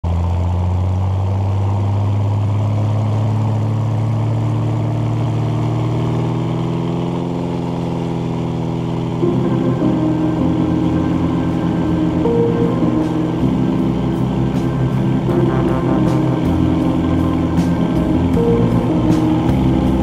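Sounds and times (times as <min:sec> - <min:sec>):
light aircraft engine droning: 0:00.0 - 0:20.0.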